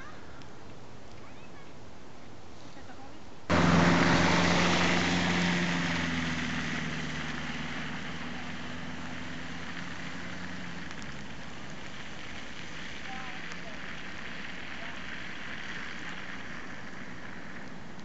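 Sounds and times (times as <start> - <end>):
vehicle engine running: 3.5 - 18.0.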